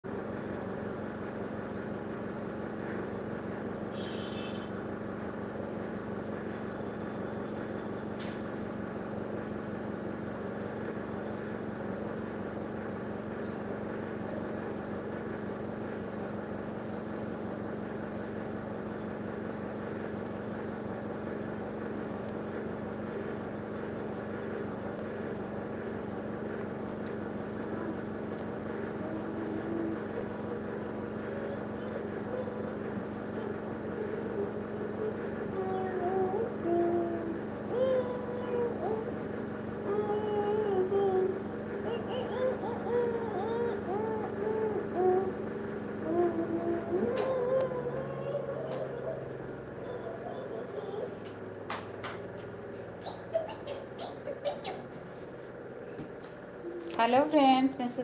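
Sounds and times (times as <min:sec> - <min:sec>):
steady low hum: 0:00.0 - 0:58.0
hissing noise over a hum: 0:00.1 - 0:58.0.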